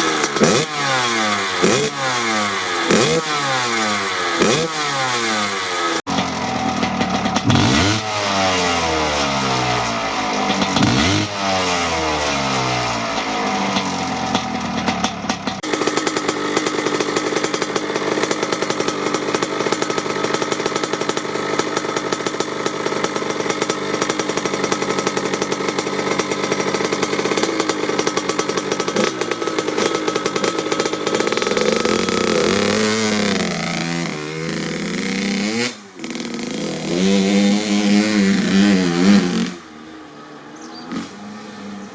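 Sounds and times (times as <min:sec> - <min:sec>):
two-stroke dirt bike engine revving: 0:00.0 - 0:41.9.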